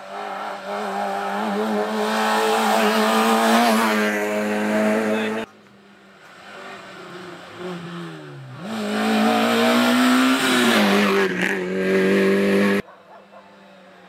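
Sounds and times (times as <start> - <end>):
rally car engine revving: 0.0 - 5.5, 6.3 - 12.8.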